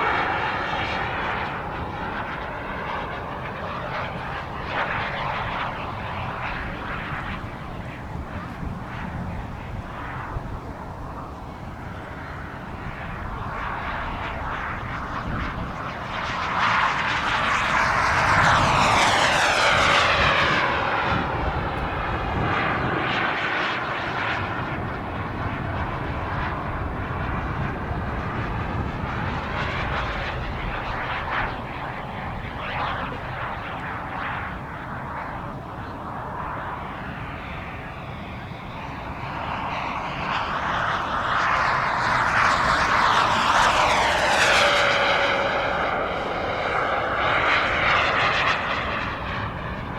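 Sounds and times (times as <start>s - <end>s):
low wind rumble: 0.0s - 49.9s
model jet turbine whining: 0.0s - 49.9s.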